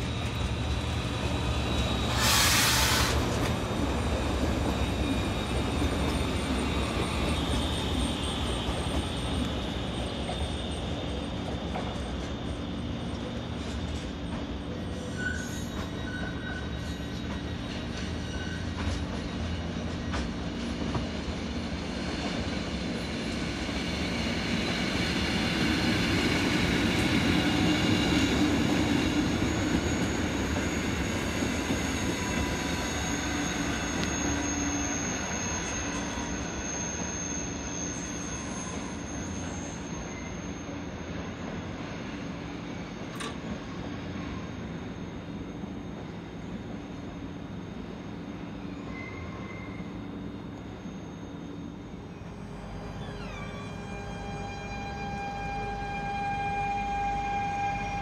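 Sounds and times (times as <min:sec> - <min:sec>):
wheel squeal: 0:00.0 - 0:20.5, 0:24.0 - 0:43.5, 0:48.5 - 0:58.0
train rail rumble: 0:00.0 - 0:58.0.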